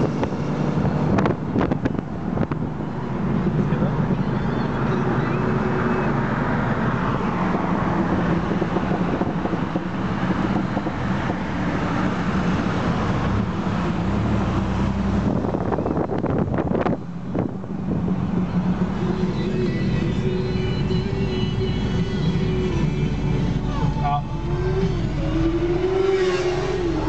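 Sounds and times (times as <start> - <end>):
road and wind noise: 0.0 - 27.0.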